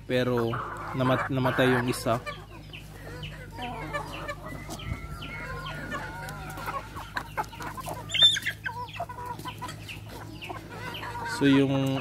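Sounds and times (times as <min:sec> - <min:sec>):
chickens clucking: 0:00.0 - 0:12.0
long drawn-out chicken call: 0:00.4 - 0:11.7
loud chicken squawk: 0:00.4 - 0:11.8.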